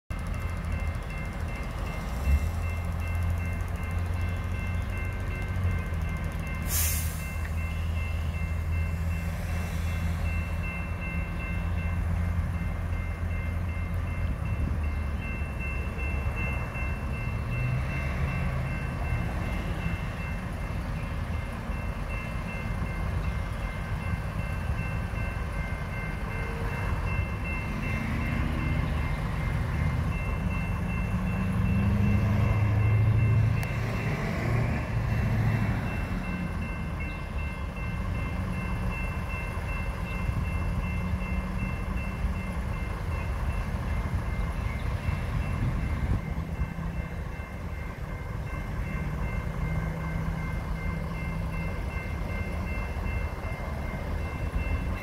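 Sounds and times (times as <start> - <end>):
idling traffic rumble: 0.1 - 55.0
railroad crossing bell ringing: 0.1 - 55.0.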